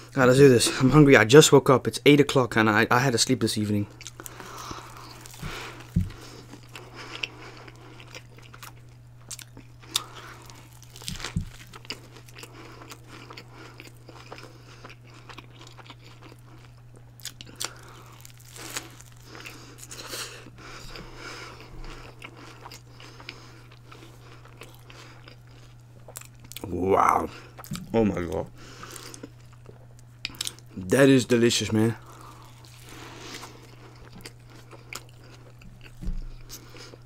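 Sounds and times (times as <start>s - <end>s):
person chewing food: 3.9s - 30.8s, 32.0s - 37.0s.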